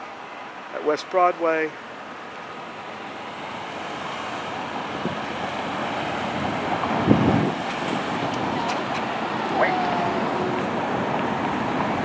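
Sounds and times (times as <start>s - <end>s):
road traffic rush: 1.7s - 12.0s.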